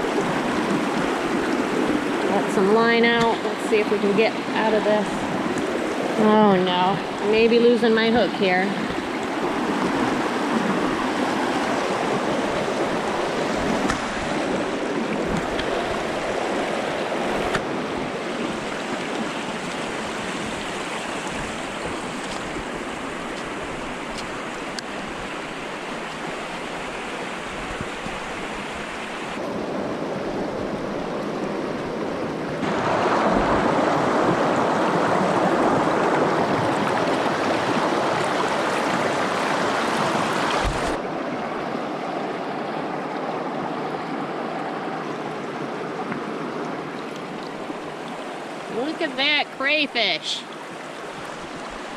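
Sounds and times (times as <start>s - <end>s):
brook water rushing: 0.0s - 51.9s.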